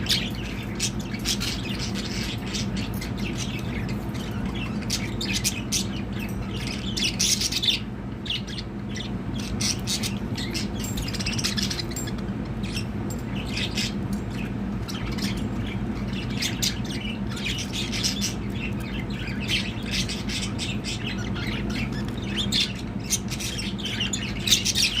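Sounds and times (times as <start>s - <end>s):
budgerigars chirping and squawking: 0.0s - 25.0s
steady low hum: 0.0s - 25.0s.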